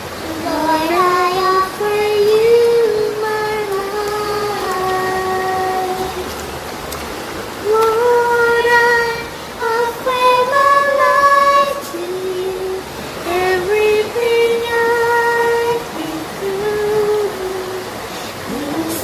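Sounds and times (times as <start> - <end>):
woman singing worship melody: 0.0 - 6.4, 7.6 - 19.0
background hiss: 0.0 - 19.0.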